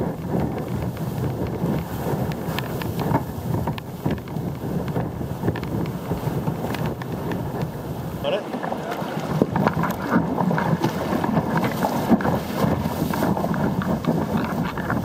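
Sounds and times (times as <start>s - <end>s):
rushing whitewater: 0.0s - 15.0s
wind buffeting microphone: 0.0s - 15.0s.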